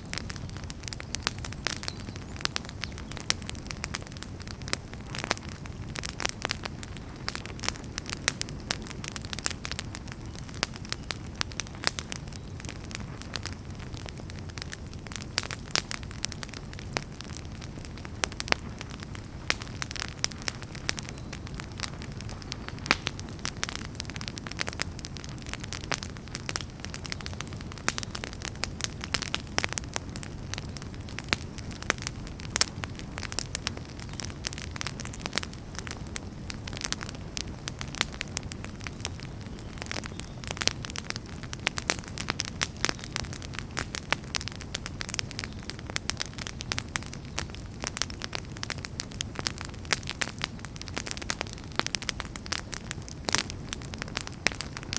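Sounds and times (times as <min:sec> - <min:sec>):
firewood crackling and popping: 0:00.0 - 0:54.9
low rumble of flame: 0:00.0 - 0:54.9.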